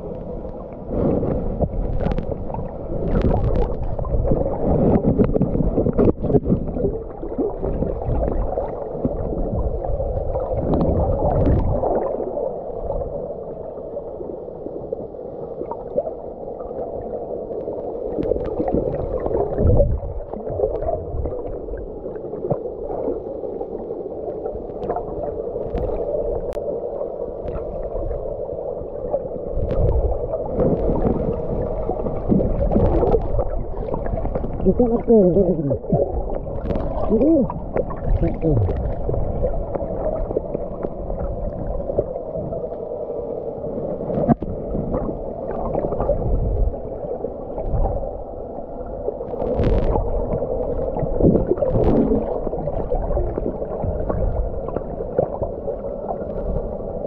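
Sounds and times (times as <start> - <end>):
underwater hum: 0.0 - 57.0
water gurgling underwater: 0.0 - 57.0.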